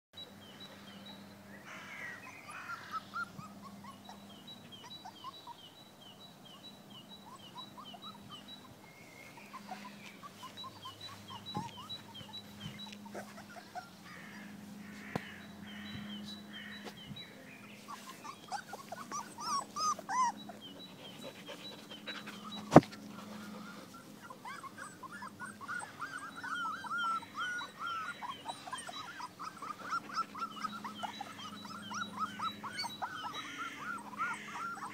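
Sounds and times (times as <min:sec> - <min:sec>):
puppies whimpering and squeaking: 0:02.2 - 0:14.6, 0:15.9 - 0:34.9.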